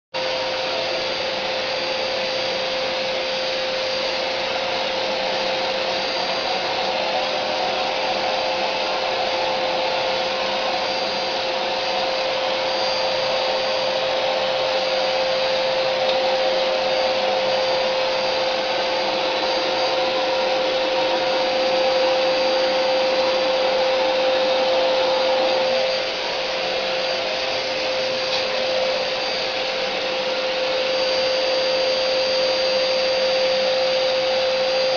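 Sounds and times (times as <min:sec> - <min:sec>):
vacuum cleaner running: 0:00.2 - 0:34.9.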